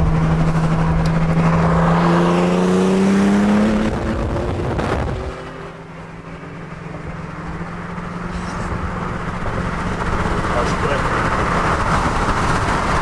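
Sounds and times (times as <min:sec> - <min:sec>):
car engine accelerating: 0:00.0 - 0:13.0
road noise: 0:00.0 - 0:13.0.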